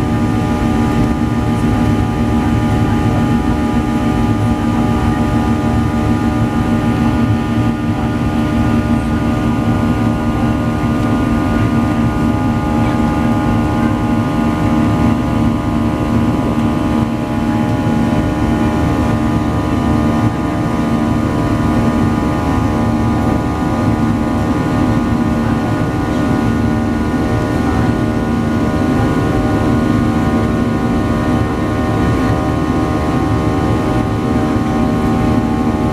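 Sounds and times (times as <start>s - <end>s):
droning tones: 0.0s - 35.9s
jet cabin engine rush: 0.0s - 35.9s.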